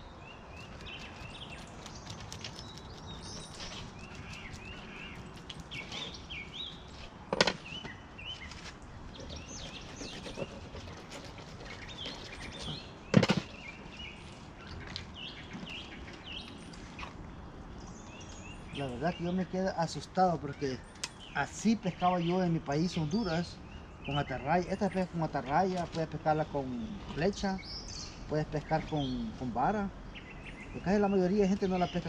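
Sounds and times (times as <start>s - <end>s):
birds chirping and singing: 0.0s - 32.0s.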